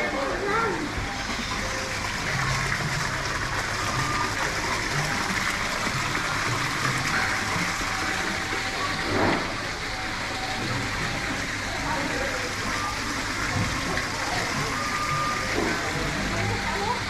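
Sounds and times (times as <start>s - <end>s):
fountain splashing into pond: 1.3s - 17.0s.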